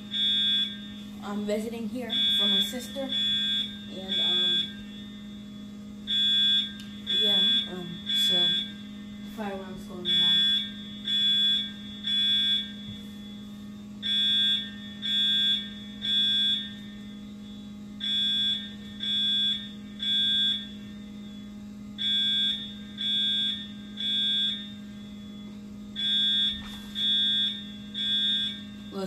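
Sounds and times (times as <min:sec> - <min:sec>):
fire alarm blasts: 0:00.0 - 0:29.0.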